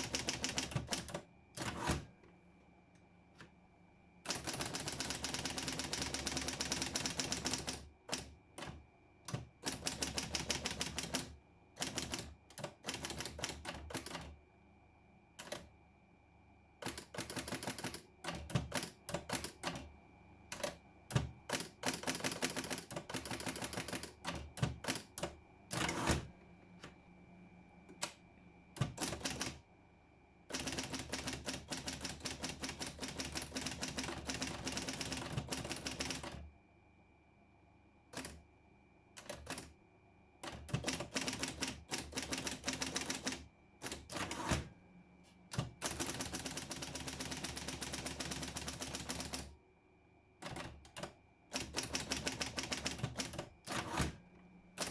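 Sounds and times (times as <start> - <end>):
typewriter running hum: 0.0 - 2.2, 4.2 - 14.4, 15.4 - 15.7, 16.8 - 27.0, 27.9 - 29.7, 30.5 - 36.5, 38.0 - 38.5, 39.1 - 39.8, 40.4 - 44.8, 45.5 - 49.6, 50.4 - 54.9.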